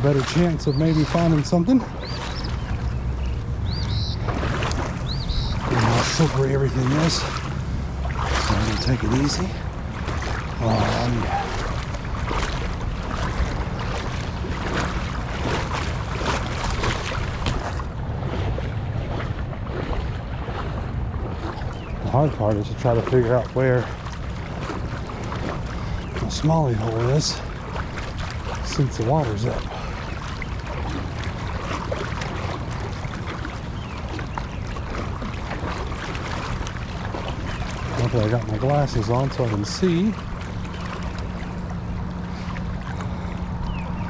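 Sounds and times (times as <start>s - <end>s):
creek water rushing: 0.0s - 44.0s
wind rumbling on microphone: 0.0s - 44.0s.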